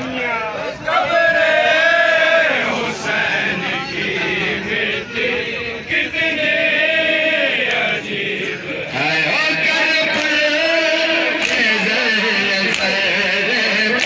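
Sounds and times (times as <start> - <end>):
men chanting a mourning lament: 0.0 - 14.0.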